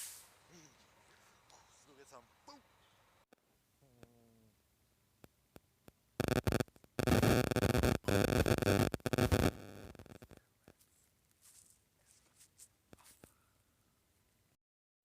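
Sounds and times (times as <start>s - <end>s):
static-like hiss: 0.0s - 14.6s.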